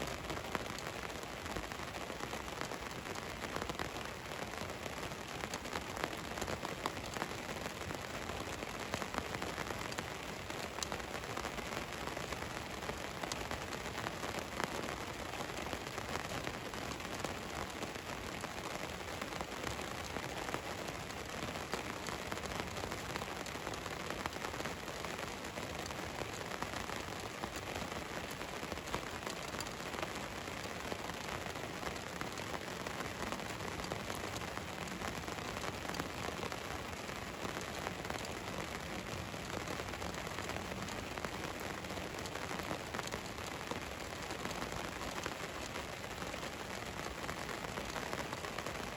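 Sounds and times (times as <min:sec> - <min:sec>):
rain on a vehicle roof: 0:00.0 - 0:48.9.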